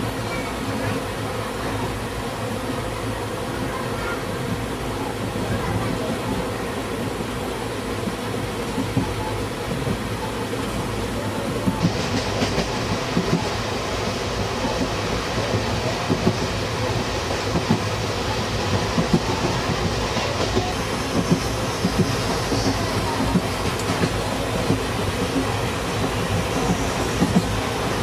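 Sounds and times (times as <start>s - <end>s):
train coach rumble: 0.0s - 28.0s.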